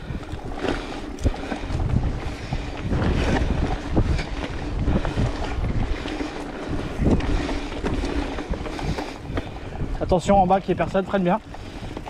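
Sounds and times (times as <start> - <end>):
bike knocking and rattling: 0.0 - 12.0
tyres rumbling on dirt: 0.0 - 12.0
wind buffeting microphone: 0.0 - 12.0.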